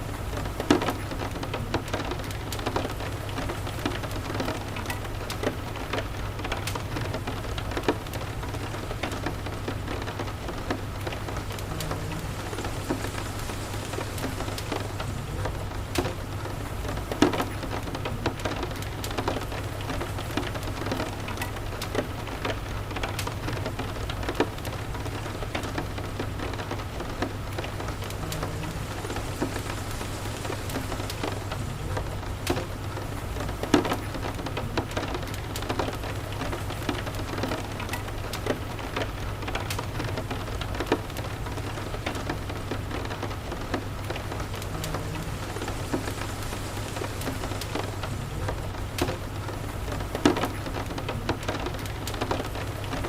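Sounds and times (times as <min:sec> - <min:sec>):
steady rain: 0:00.0 - 0:53.0
wood fire crackling and popping: 0:00.2 - 0:53.0.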